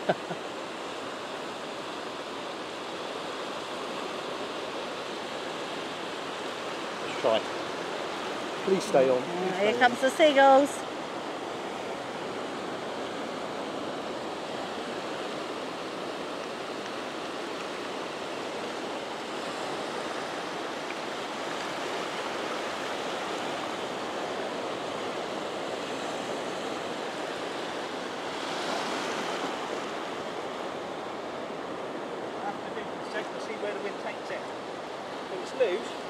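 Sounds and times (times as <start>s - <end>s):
small waves breaking on sand: 0.0s - 36.0s.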